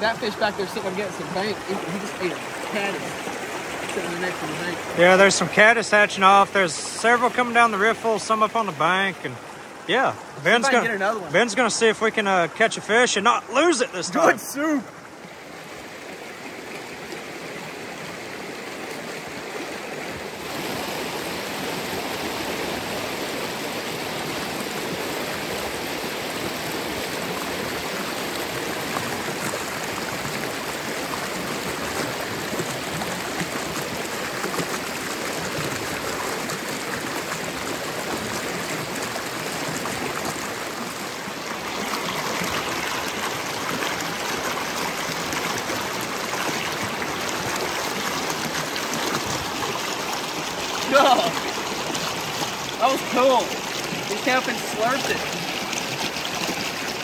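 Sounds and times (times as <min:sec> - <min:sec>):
creek rushing over rocks: 0:00.0 - 0:57.0.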